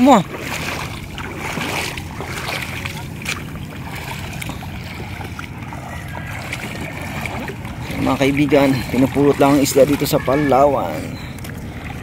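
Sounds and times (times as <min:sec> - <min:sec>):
feet wading through water: 0:00.0 - 0:12.0
small water splashes: 0:00.0 - 0:12.0.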